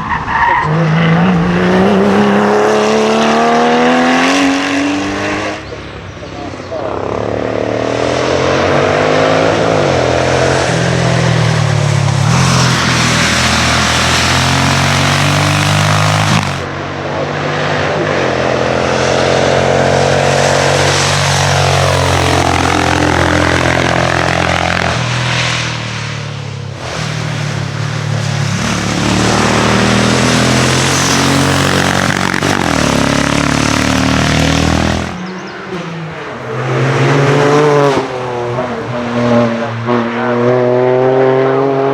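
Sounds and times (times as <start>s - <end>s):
racing car engines at high revs: 0.0s - 41.9s.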